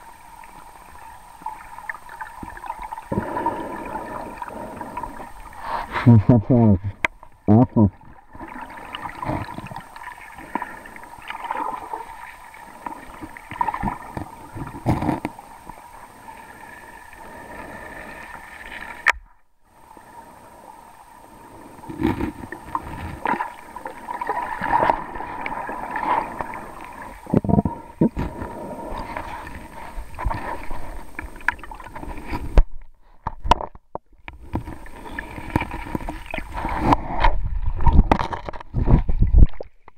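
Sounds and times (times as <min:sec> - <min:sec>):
muffled underwater river gurgling: 0:00.0 - 0:32.8, 0:34.2 - 0:39.8.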